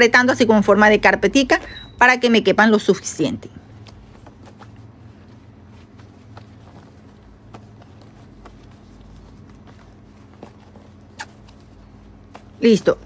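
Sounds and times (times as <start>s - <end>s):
soft fabric handling: 0.0s - 13.0s
steady low hum: 0.0s - 13.0s.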